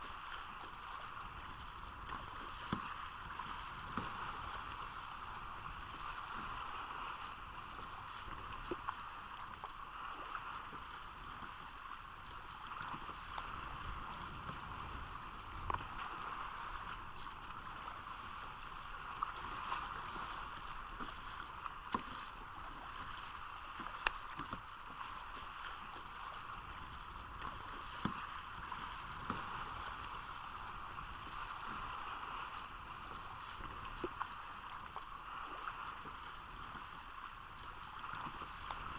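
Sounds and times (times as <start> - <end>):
water lapping around a kayak: 0.0 - 38.9.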